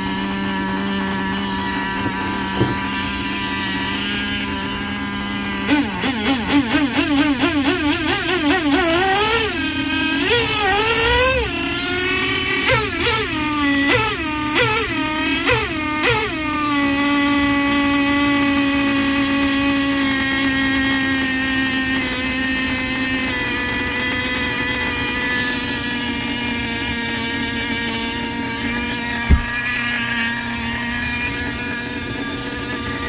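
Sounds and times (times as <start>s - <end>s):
model car engine revving and idling: 0.0s - 33.0s
wheels spinning free: 0.0s - 33.0s.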